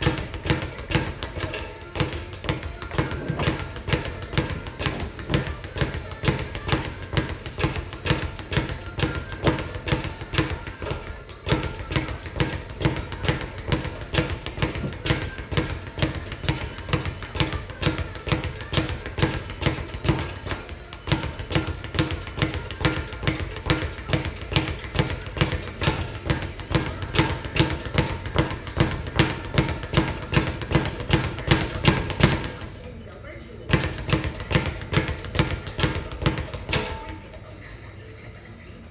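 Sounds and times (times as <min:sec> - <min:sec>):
speed bag being punched: 0:00.0 - 0:32.9, 0:33.7 - 0:37.2.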